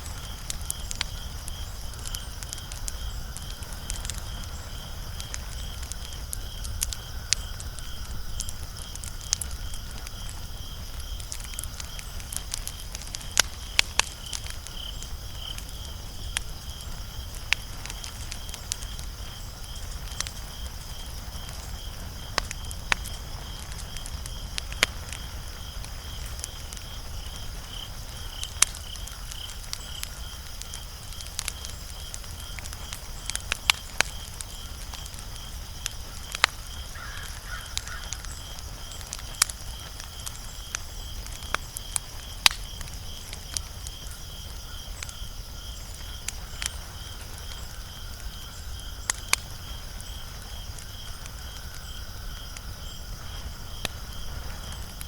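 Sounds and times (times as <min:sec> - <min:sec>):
insect chirping: 0:00.0 - 0:55.0
wood fire crackling: 0:00.0 - 0:55.0.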